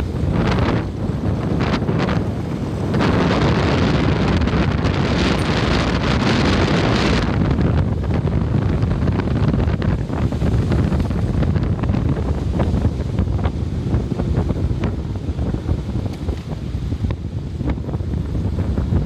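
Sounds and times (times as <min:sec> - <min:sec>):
vehicle rumble on road: 0:00.0 - 0:19.0
wind buffeting microphone: 0:00.0 - 0:19.0.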